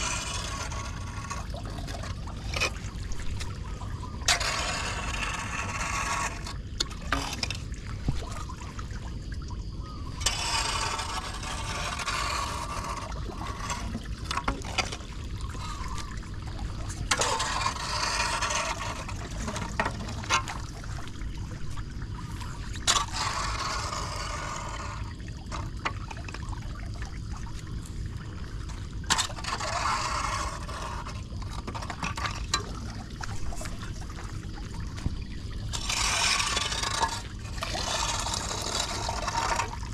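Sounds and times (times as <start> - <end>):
water pouring into storm drain: 0.0 - 9.2, 10.2 - 39.9
water splashing: 0.0 - 39.9.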